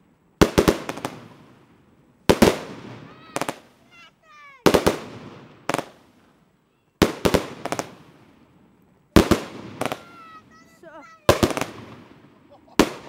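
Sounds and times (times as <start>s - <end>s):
fireworks bangs: 0.4s - 6.4s, 7.0s - 13.0s.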